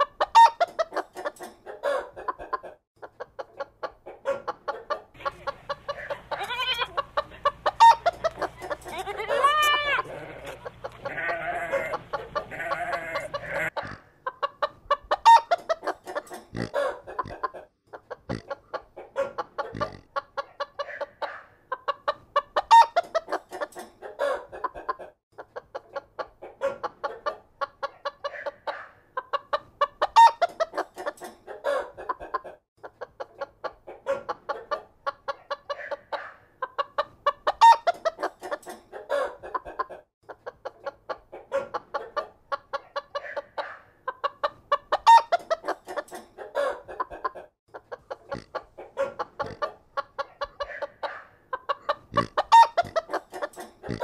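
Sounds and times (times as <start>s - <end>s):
chickens clucking: 0.0s - 54.0s
drawn-out chicken call: 0.0s - 54.0s.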